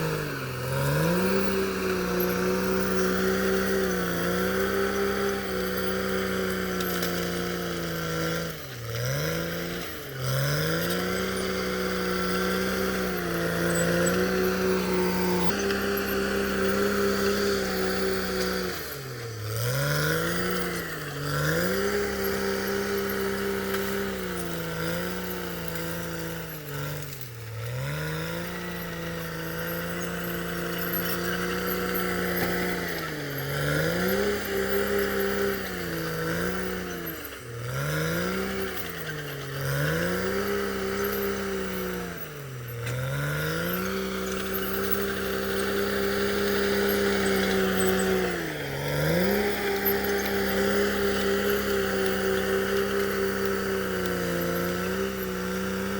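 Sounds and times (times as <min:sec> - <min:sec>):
bulldozer diesel engine revving: 0:00.0 - 0:55.9.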